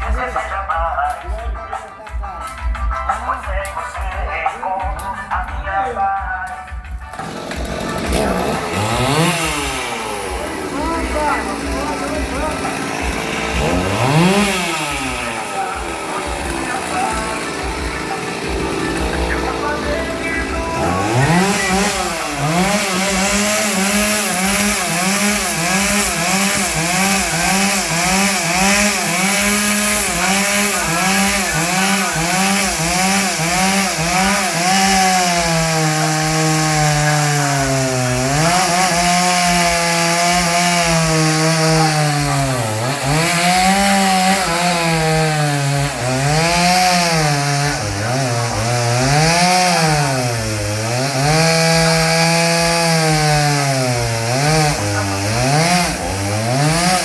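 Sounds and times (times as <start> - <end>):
chainsaw cutting wood: 6.5 - 57.0.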